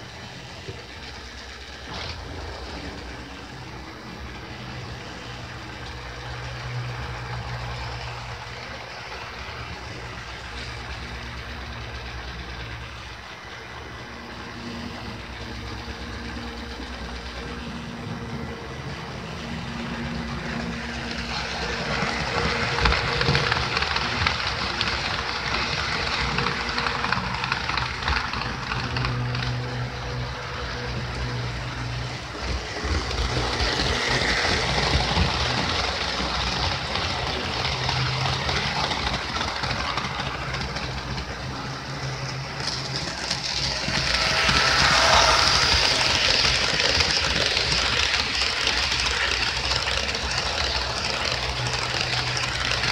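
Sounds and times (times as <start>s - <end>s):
model train rattling and whirring: 0.0s - 52.9s.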